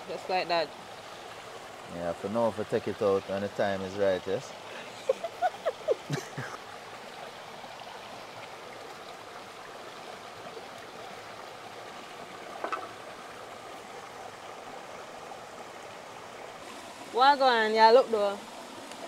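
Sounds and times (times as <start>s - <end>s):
river water flowing over rocks: 0.0s - 19.0s.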